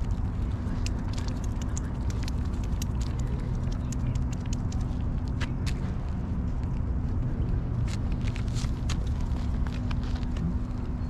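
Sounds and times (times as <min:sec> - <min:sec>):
dry grass crackling: 0:00.0 - 0:11.0
steady low rumble: 0:00.0 - 0:11.0.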